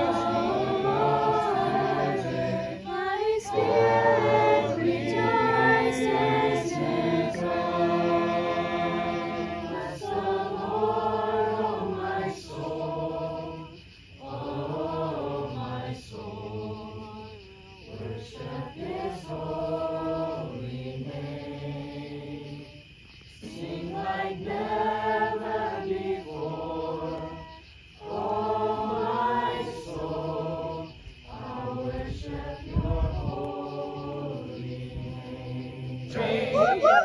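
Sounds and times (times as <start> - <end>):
choir singing held phrases: 0.0 - 37.0.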